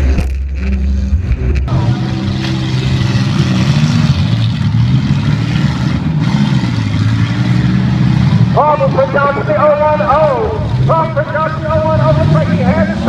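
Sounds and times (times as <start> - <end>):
car engines revving loudly: 0.0 - 13.0.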